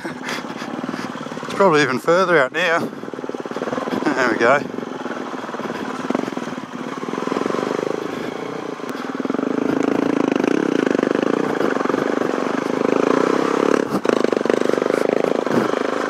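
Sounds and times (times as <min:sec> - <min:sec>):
dirt bike engine under throttle: 0:00.0 - 0:16.0.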